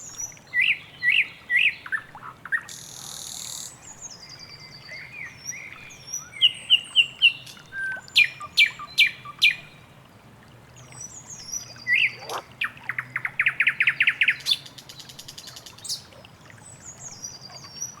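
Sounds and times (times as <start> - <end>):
birds singing and calling: 0.2 - 9.8, 10.8 - 18.0.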